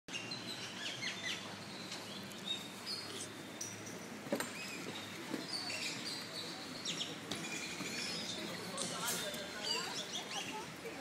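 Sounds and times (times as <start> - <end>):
birds chirping and whistling: 0.1 - 10.7
steady background hiss: 0.1 - 11.0.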